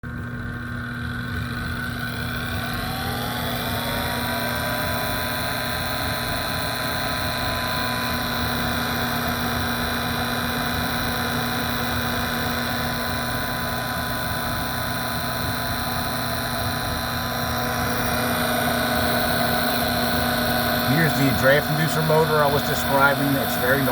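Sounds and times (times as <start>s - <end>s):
furnace inducer motor whining: 0.0s - 23.9s.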